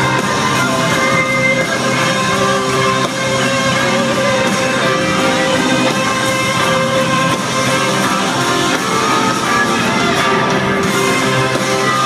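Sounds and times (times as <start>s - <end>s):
live band playing amplified music: 0.0s - 12.0s.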